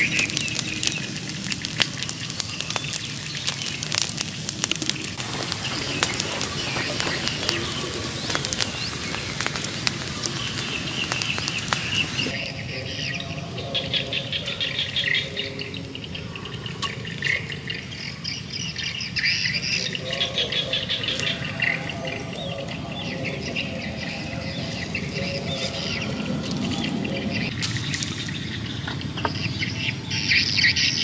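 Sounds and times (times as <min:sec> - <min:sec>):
low outdoor hum: 0:00.0 - 0:31.0
small birds chirping: 0:00.0 - 0:31.0.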